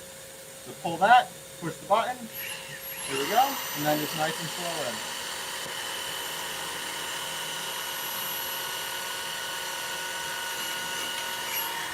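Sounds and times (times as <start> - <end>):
power tool motor whining: 1.9 - 11.9.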